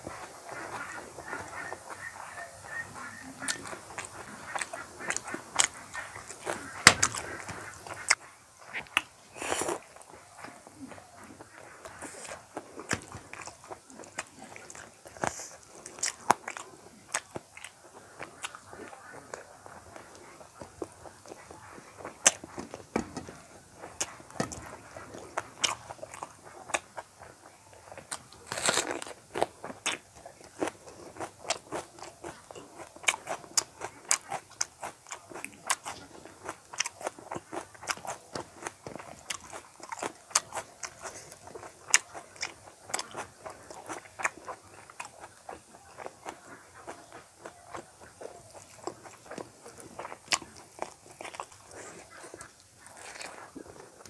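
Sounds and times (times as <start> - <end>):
chewing and wet mouth clicks: 0.1 - 54.0.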